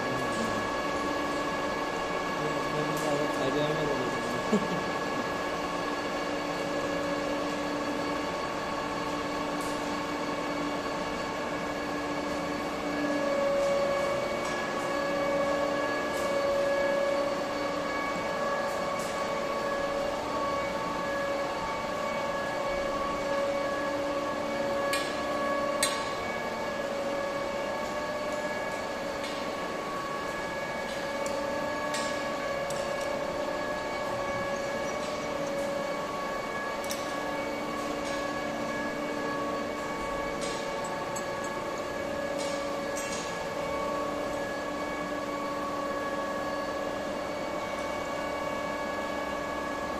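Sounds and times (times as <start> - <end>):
machinery hum: 0.0 - 49.9.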